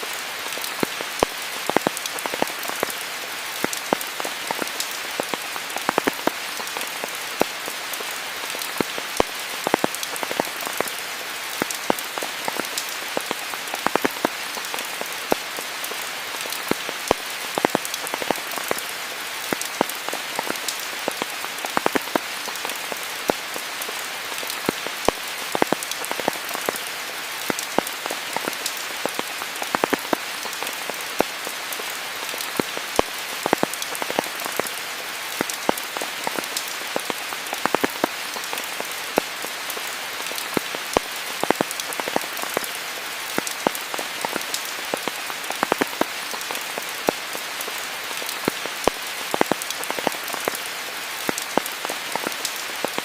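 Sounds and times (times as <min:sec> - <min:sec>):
raindrops ticking close by: 0:00.0 - 0:53.0
steady rain hiss: 0:00.0 - 0:53.0.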